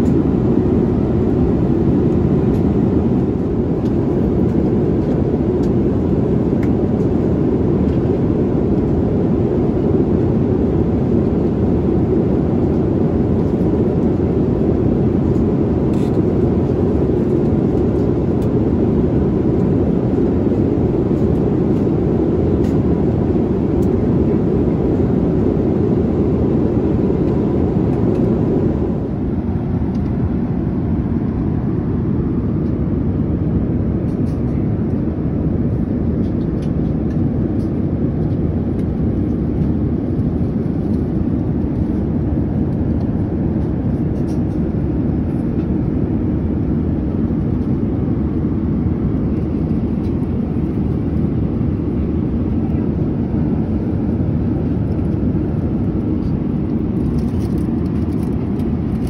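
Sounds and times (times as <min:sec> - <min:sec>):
airliner cabin noise: 0:00.0 - 0:59.0.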